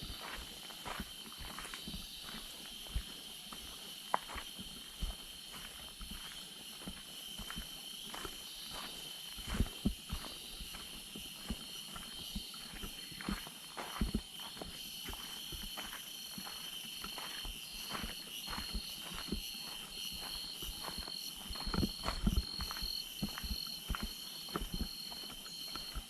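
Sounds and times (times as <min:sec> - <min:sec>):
insects pulsing drone: 0:00.0 - 0:26.0.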